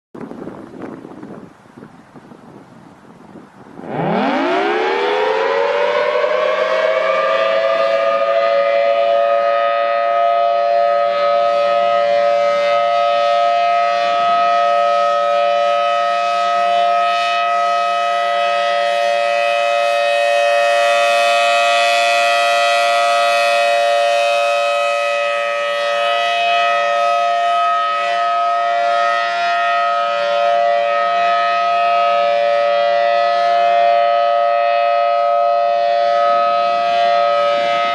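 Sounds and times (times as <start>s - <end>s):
emergency alert siren: 3.8s - 37.9s.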